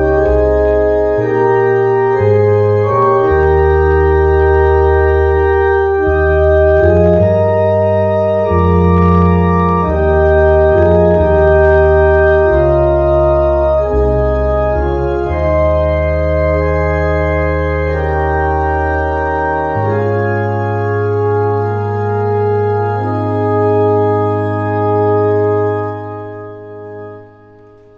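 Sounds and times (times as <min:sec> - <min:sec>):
electronic organ playing chords: 0:00.0 - 0:27.9.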